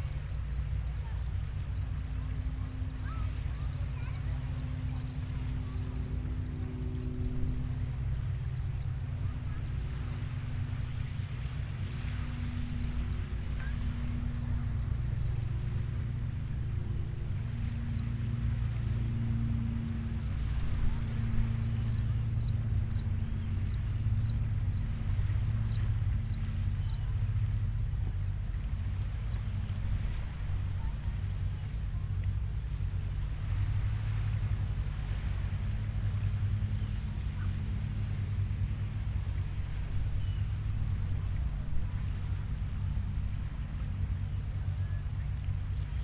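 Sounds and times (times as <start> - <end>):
faint steady hum: 0.0 - 46.0
ocean surf rumble: 0.0 - 46.0
waves breaking on beach: 0.0 - 46.0.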